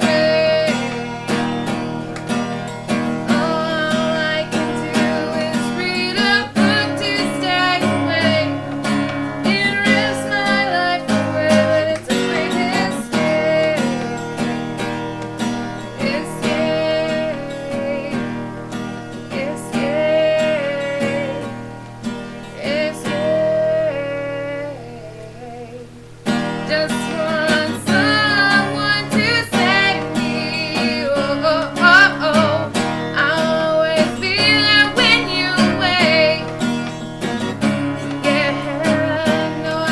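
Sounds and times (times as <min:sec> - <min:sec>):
person singing: 0:00.0 - 0:14.6, 0:15.7 - 0:21.7, 0:22.4 - 0:39.9
acoustic guitar strumming: 0:00.0 - 0:39.9.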